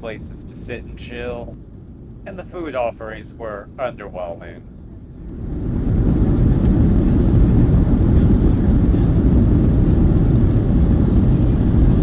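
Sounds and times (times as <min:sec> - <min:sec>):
airplane engine rumble: 0:00.0 - 0:12.0
cabin airflow noise: 0:00.0 - 0:12.0.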